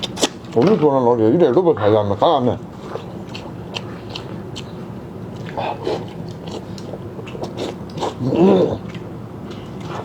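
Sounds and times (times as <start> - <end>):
wet chewing: 0.0 - 0.8, 1.5 - 10.0.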